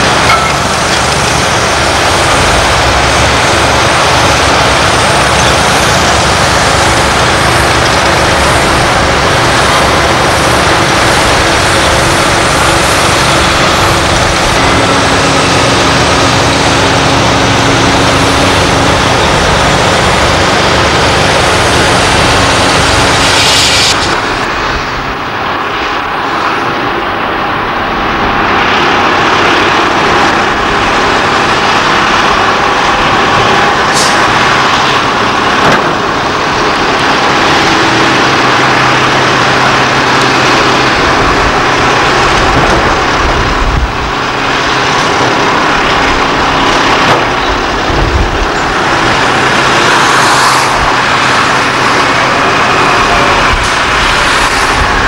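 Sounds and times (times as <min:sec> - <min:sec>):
construction machinery engines running: 0:00.0 - 0:55.0.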